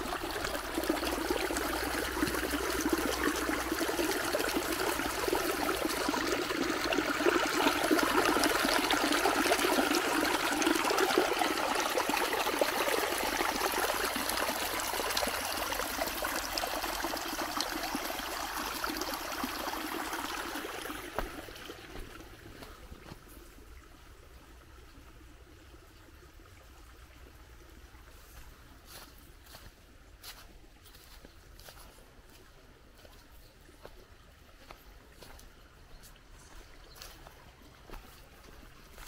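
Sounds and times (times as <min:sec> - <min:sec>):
stream splashing and trickling: 0:00.0 - 0:39.0.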